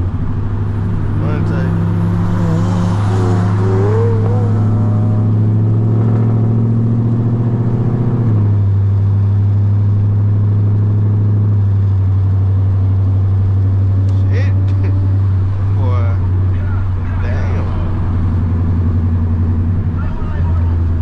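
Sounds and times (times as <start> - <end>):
car engine humming: 0.0 - 21.0.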